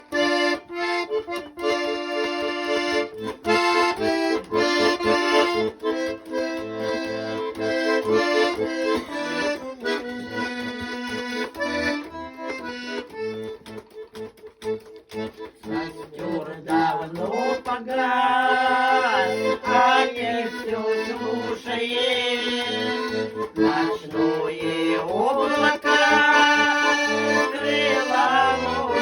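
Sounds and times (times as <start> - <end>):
accordion melody: 0.0 - 29.0.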